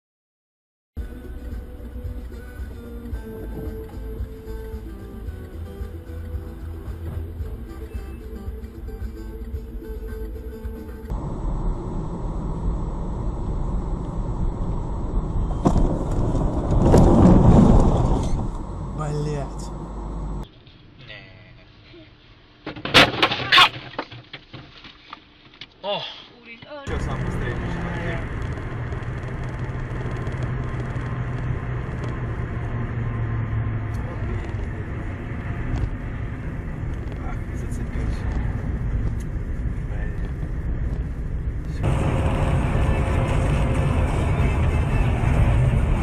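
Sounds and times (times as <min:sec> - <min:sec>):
car driving rumble: 0:01.0 - 0:20.5, 0:26.7 - 0:46.0
constant low hum: 0:01.0 - 0:46.0.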